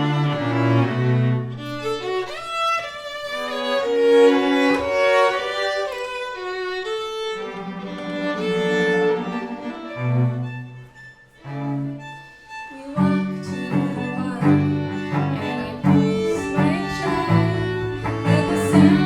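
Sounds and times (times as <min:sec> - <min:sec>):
violin and cello long held notes: 0:00.0 - 0:19.0.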